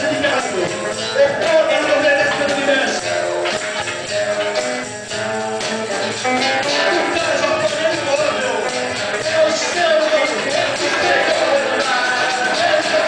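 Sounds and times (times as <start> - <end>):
acoustic guitar: 0.0 - 13.0
electric guitar: 0.0 - 13.0
jingling shaken percussion: 0.0 - 13.0.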